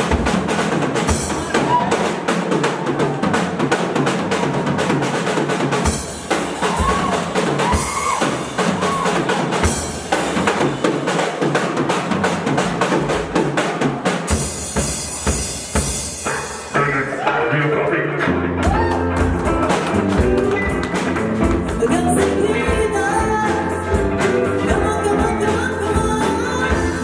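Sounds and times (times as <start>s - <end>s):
band playing live: 0.0s - 27.0s.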